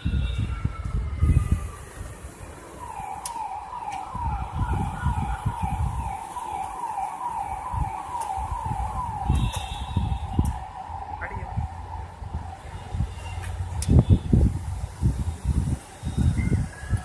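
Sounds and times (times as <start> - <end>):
electronic siren yelping: 0.0 - 14.5
wind rumbling on microphone: 0.0 - 17.0.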